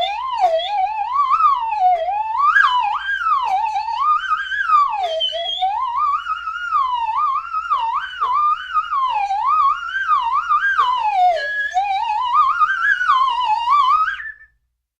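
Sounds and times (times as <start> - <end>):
slide whistle glides: 0.0 - 14.6.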